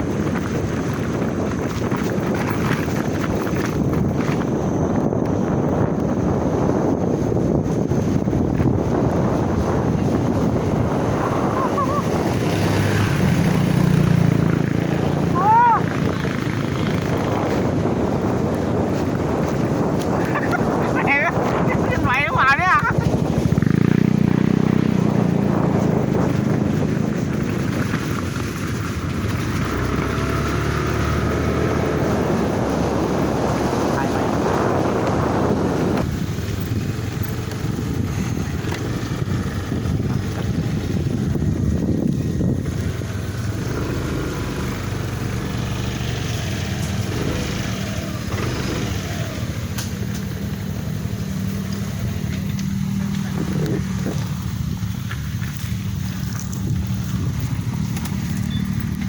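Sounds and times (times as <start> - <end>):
engine running: 0.0 - 59.0
wind noise on microphone: 0.0 - 59.0.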